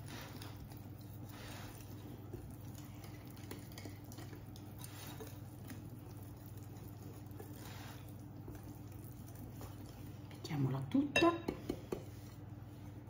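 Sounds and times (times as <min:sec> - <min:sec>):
whisk stirring batter: 0:00.0 - 0:13.0.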